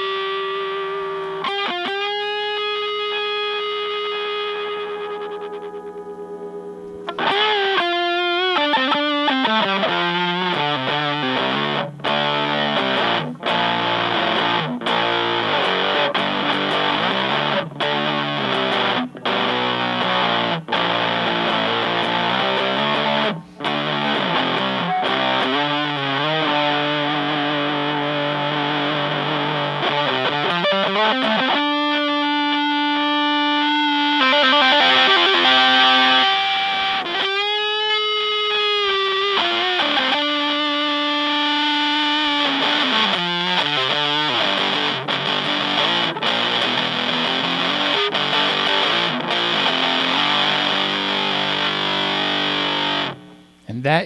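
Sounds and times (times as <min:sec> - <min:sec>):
fuzzed electric guitar riff: 0:00.0 - 0:54.0.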